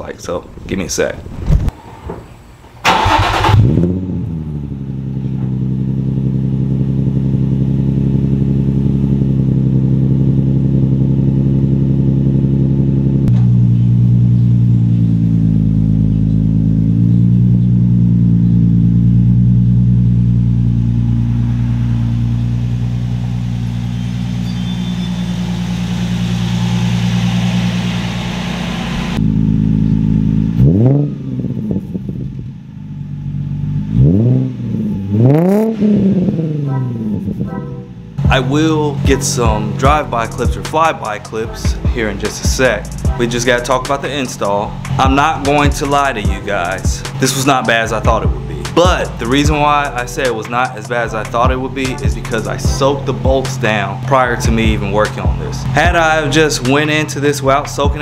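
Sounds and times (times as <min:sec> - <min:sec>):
car engine starting and idling: 0:00.0 - 0:58.0.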